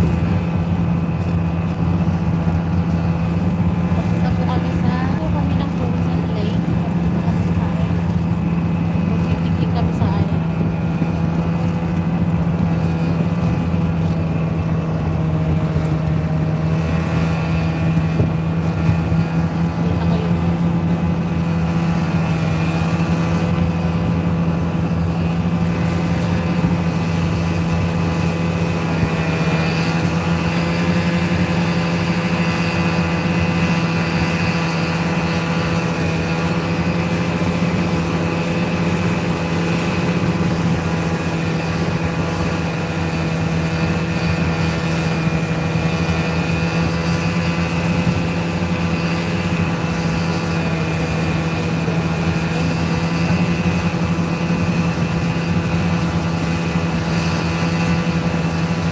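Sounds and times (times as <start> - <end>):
snowmobile engine droning: 0.0 - 58.9.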